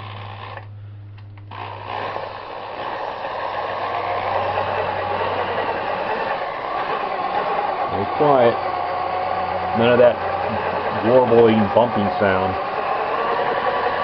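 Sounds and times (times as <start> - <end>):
transmission whirring: 0.0 - 14.0.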